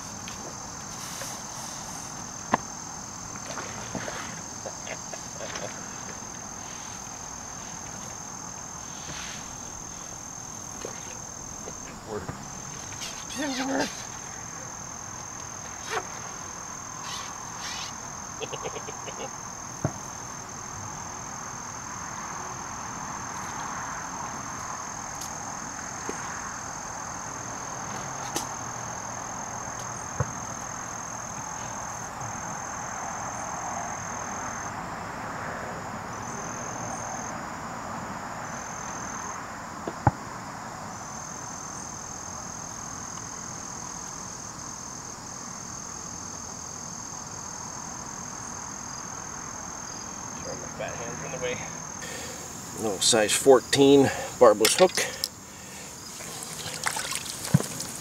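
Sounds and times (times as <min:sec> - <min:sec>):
cricket trilling: 0:00.0 - 0:58.0.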